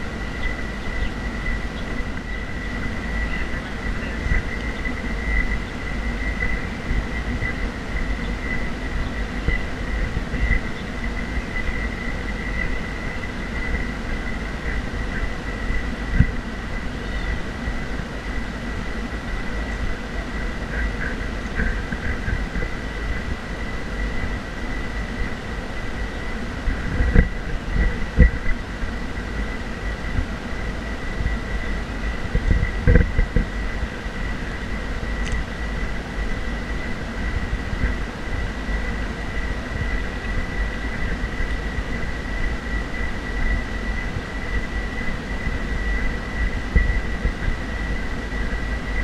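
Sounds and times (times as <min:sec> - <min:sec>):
thin high whine: 0:00.0 - 0:49.0
wind buffeting microphone: 0:00.0 - 0:49.0.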